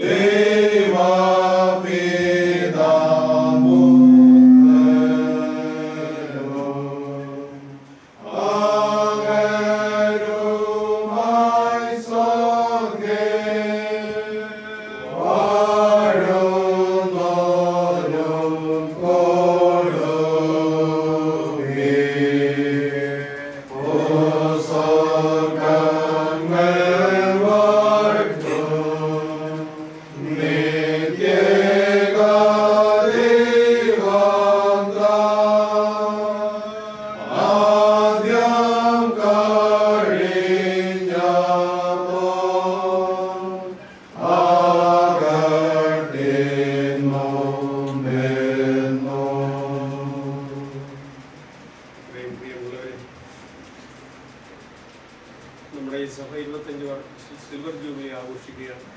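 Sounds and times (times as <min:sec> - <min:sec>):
voices chanting together: 0:00.0 - 0:51.1.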